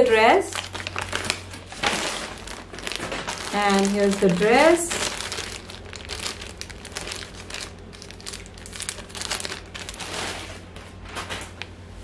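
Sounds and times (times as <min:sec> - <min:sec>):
packaging and fabric rustling: 0:00.5 - 0:11.6.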